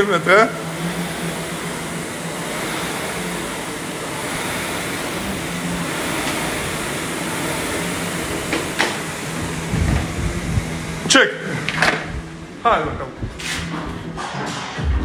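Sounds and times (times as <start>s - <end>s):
rowing machine flywheel whooshing: 0.0s - 15.0s.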